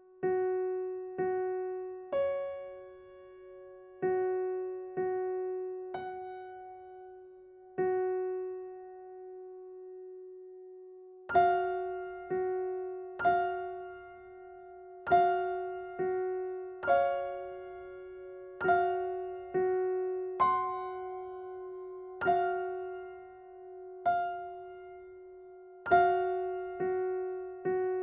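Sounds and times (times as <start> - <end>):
slow piano notes: 0.0 - 28.0.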